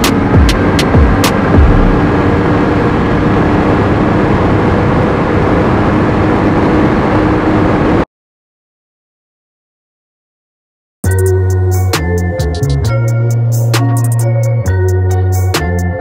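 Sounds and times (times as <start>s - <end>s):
vehicle road and engine drone: 0.0s - 8.1s, 11.0s - 16.0s.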